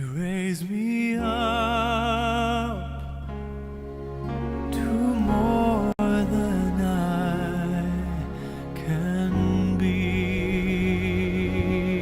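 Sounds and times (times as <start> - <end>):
slow gentle music: 0.2 - 12.0.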